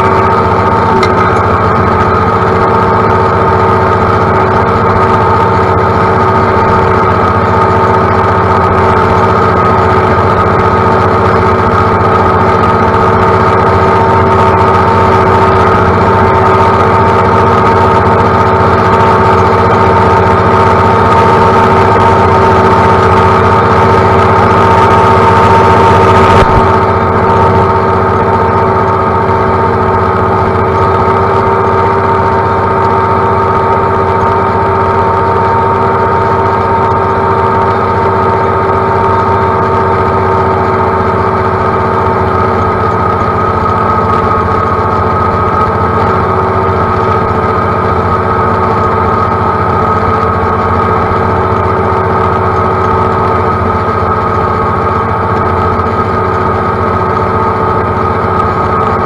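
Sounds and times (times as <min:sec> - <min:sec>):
steady whining tones: 0:00.0 - 0:59.0
tractor engine droning: 0:00.0 - 0:59.0.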